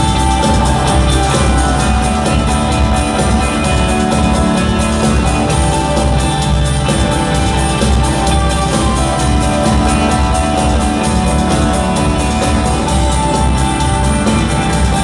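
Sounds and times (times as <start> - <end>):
electric guitar: 0.0 - 15.0
live rock band instrumental: 0.0 - 15.0.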